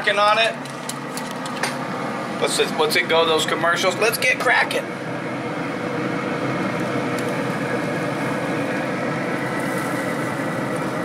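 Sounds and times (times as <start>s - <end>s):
smoker fan whirring: 0.0s - 11.0s.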